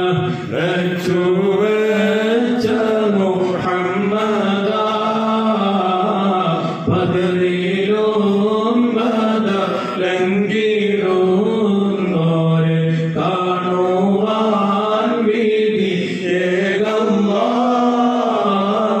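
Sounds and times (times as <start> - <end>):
man chanting into microphone: 0.0 - 19.0.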